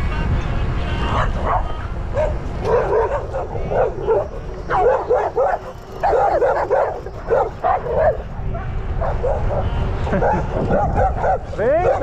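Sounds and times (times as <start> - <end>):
dogs barking: 1.1 - 12.0.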